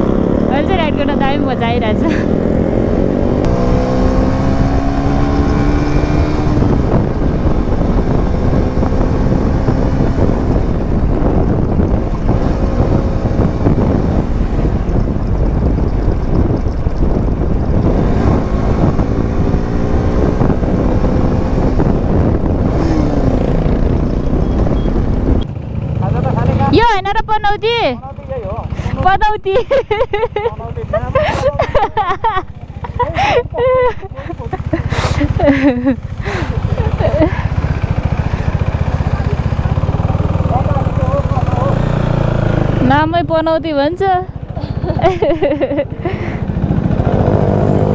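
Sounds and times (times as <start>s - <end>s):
wind buffeting microphone: 0.0s - 25.5s, 31.1s - 47.9s
motorcycle engine accelerating: 0.0s - 47.9s.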